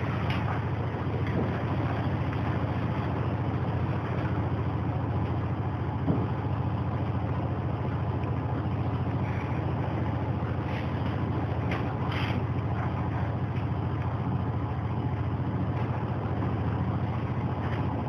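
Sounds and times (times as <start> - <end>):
heater droning: 0.0 - 18.0.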